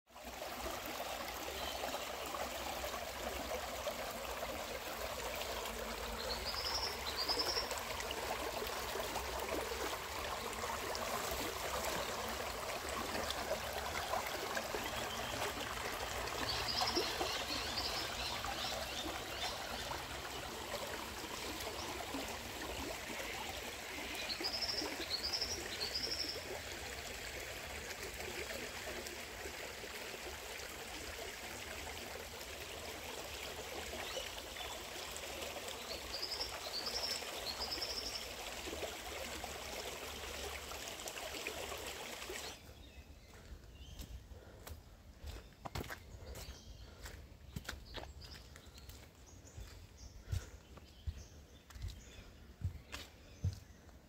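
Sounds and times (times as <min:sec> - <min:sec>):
creek water burbling: 0:00.1 - 0:53.6.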